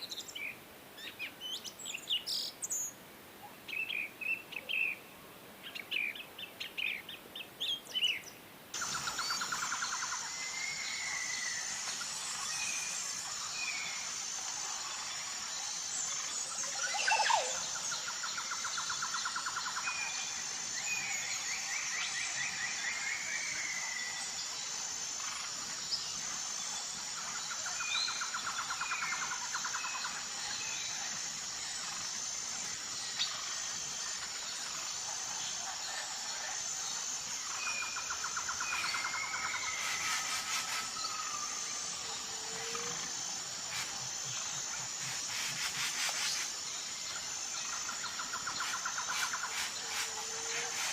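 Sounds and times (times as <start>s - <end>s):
high insect drone: 0.0s - 50.9s
songbird singing trills: 3.6s - 50.9s.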